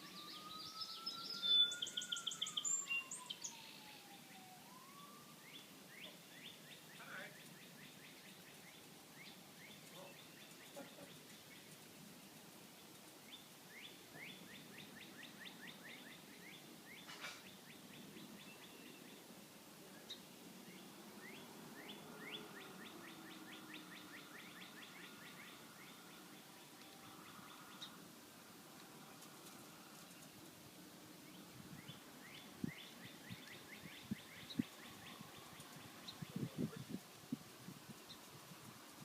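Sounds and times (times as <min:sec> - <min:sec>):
songbird chirping trills: 0:00.0 - 0:37.0.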